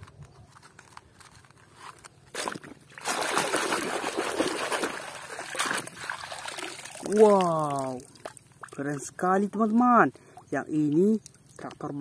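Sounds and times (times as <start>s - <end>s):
water splashing and sloshing: 2.0s - 12.0s.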